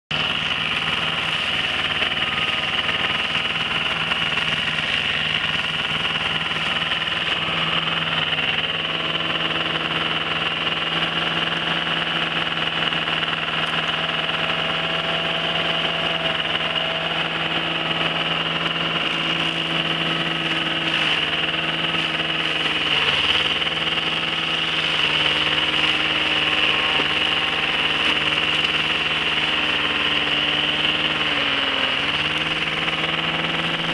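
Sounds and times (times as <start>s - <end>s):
cutting wheel grinding stump: 0.1s - 33.9s
petrol engine running under load: 0.1s - 33.9s.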